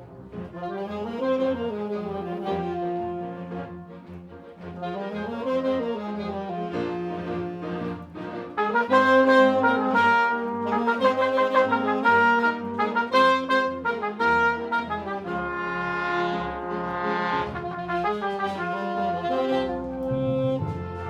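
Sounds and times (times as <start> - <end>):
brass ensemble chords: 0.0 - 21.0.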